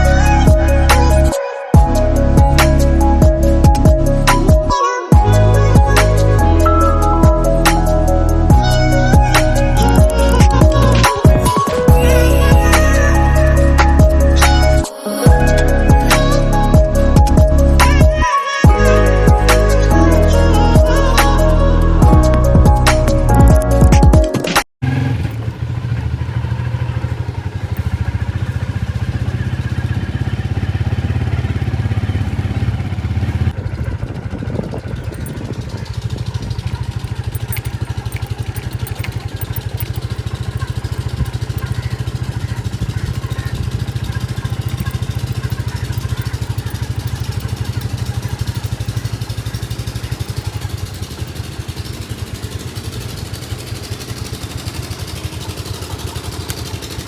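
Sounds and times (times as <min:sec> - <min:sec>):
engine running steadily: 0:00.0 - 0:23.4, 0:24.8 - 0:57.0.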